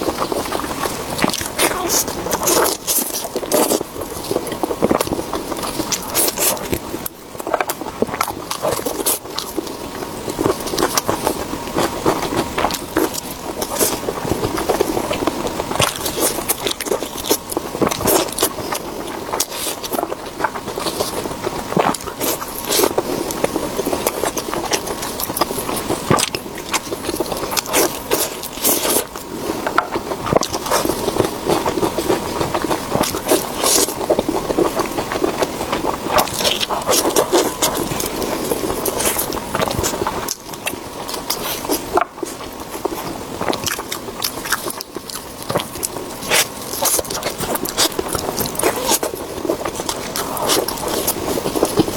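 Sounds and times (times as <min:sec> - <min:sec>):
chewing and biting: 0:00.0 - 0:51.9.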